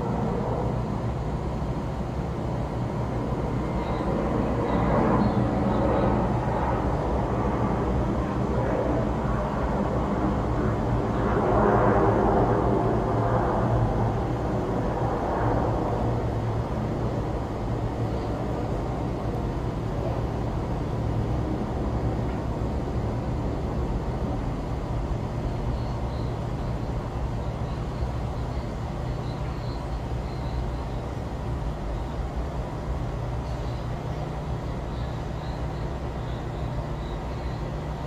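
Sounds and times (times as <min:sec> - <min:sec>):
distant traffic rumble: 0:00.0 - 0:38.0
machinery hum: 0:00.0 - 0:38.0.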